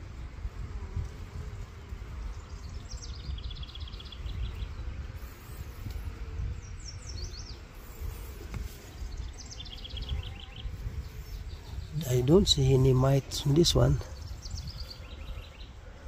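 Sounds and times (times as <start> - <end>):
honeybees buzzing: 0.0 - 16.0
songbird trill: 1.9 - 15.9.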